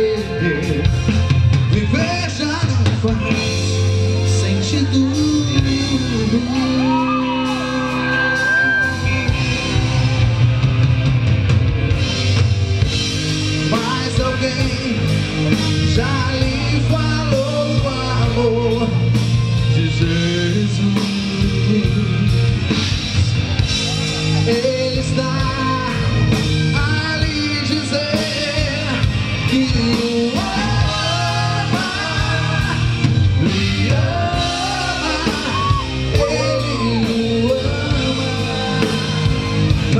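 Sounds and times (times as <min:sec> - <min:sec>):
male singer singing: 0:00.0 - 0:08.6, 0:13.6 - 0:22.9, 0:24.3 - 0:39.9
drum kit: 0:00.0 - 0:39.9
keyboards: 0:00.0 - 0:39.9.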